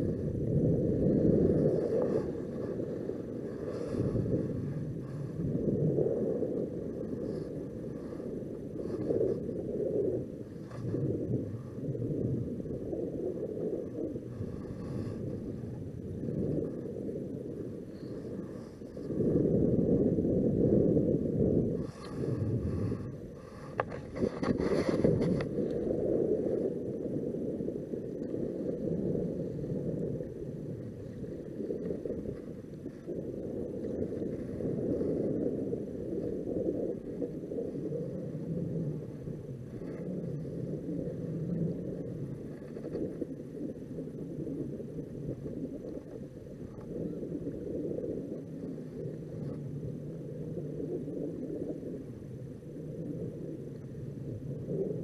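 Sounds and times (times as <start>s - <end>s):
wind and small waves: 0.0s - 55.0s.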